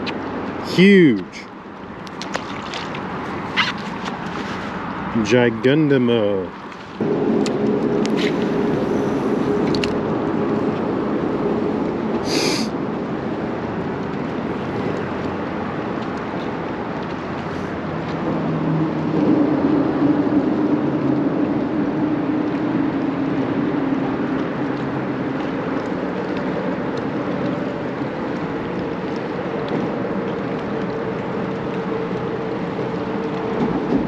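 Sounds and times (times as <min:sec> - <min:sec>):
water noise: 0:00.0 - 0:34.0
wind: 0:00.0 - 0:34.0.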